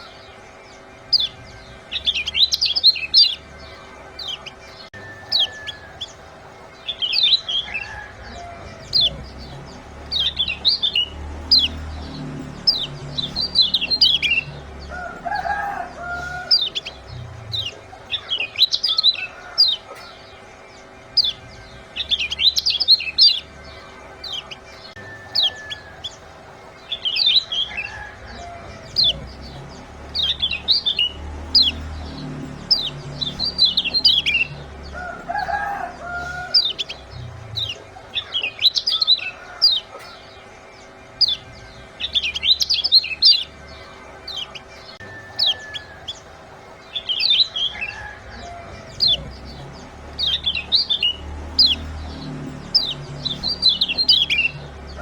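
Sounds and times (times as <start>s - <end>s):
lower bird calls: 0.0s - 55.0s
songbirds chirping: 0.0s - 55.0s.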